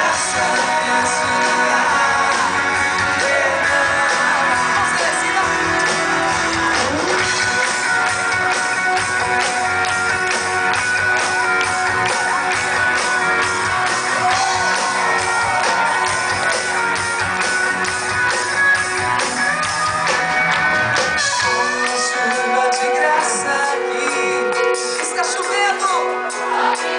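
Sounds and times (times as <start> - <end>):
drum beat: 0.0 - 21.8
electric guitar: 0.0 - 26.9.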